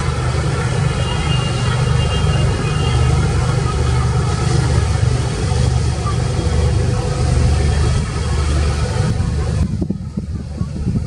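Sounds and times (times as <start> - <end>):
motor boat engine rumbling: 0.0 - 11.0.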